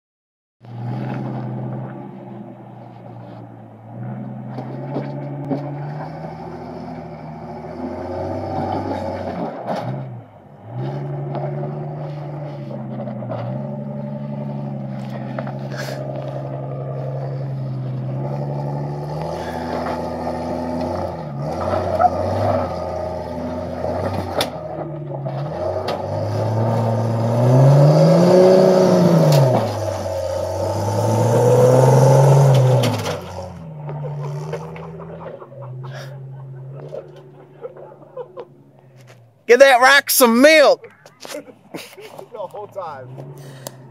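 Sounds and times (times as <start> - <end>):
pickup truck engine revving: 3.7 - 39.1.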